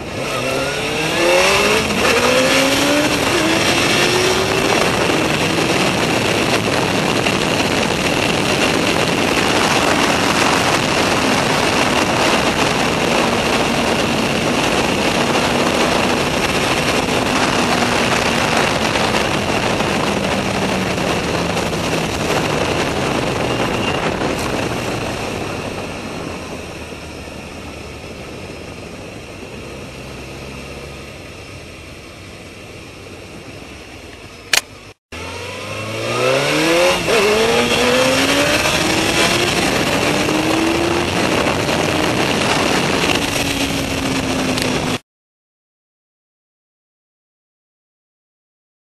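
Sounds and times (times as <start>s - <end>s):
wind rush: 0.0s - 31.5s, 35.2s - 45.0s
motorcycle engine running: 0.0s - 45.0s.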